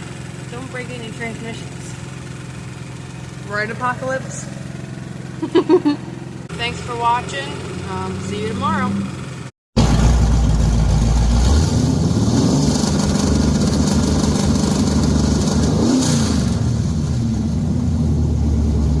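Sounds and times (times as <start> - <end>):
car engine rumbling and revving: 0.0 - 19.0.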